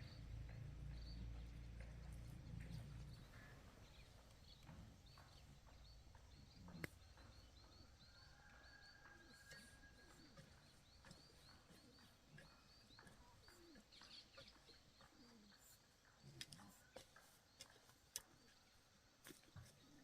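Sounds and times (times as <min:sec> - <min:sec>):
small bird chirping: 0:00.0 - 0:20.0.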